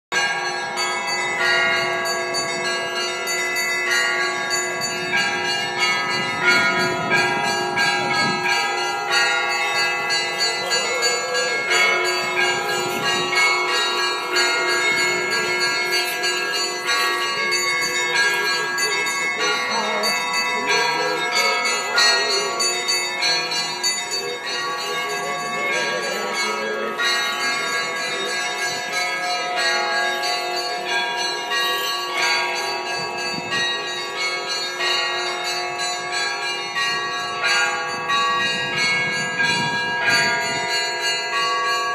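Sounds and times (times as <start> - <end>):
church bells ringing a peal: 0.1 - 41.9.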